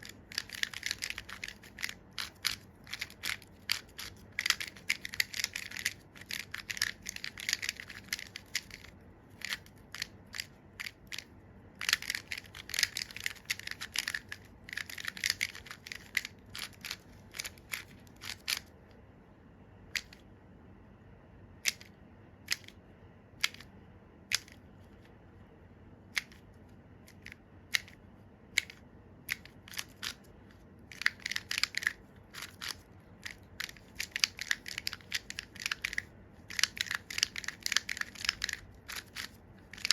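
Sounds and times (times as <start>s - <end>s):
plastic puzzle clicking: 0.0s - 18.7s, 19.9s - 20.2s, 21.6s - 21.9s, 22.5s - 22.8s, 23.4s - 23.7s, 24.3s - 24.6s, 26.1s - 26.4s, 27.1s - 30.2s, 30.9s - 39.9s.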